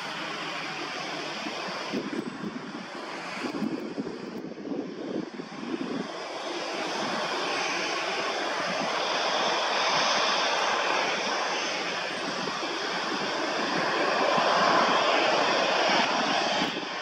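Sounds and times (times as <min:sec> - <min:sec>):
jet engines rushing at low power: 0:00.0 - 0:17.0.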